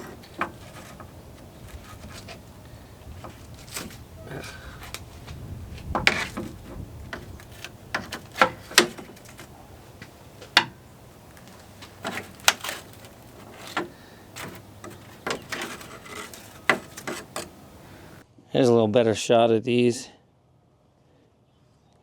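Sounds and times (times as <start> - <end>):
sharp knocks and clicks: 0.0 - 18.2.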